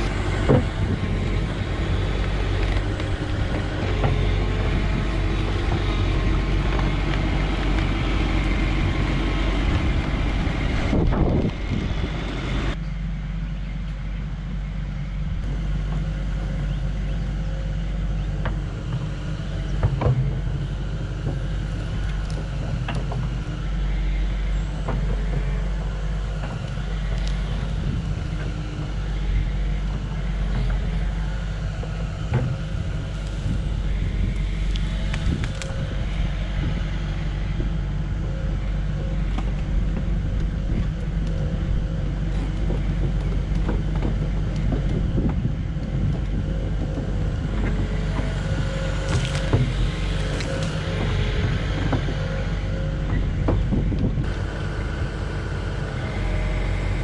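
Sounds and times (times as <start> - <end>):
excavator diesel engines running: 0.0 - 57.0.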